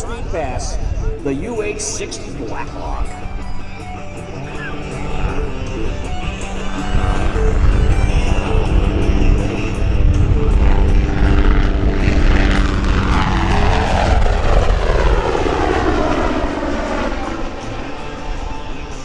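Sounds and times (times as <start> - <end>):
helicopter rotor noise: 0.0 - 19.0
turbine engine whine: 0.0 - 19.0.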